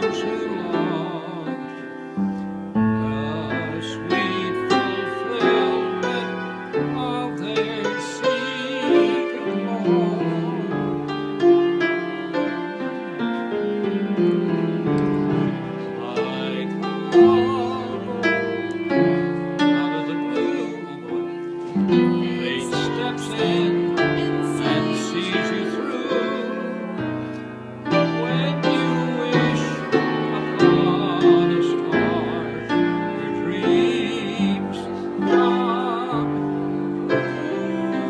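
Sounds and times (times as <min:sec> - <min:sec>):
keyboard playing chords: 0:00.0 - 0:38.0.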